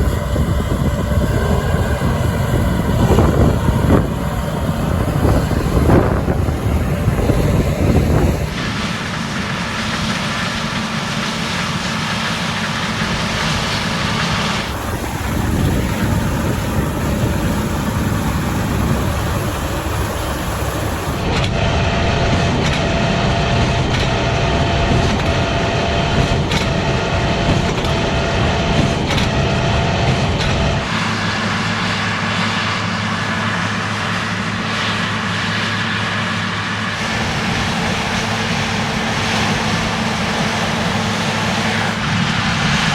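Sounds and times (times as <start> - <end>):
combine harvester engine drone: 0.0 - 42.9
thin steady whine: 0.0 - 42.9.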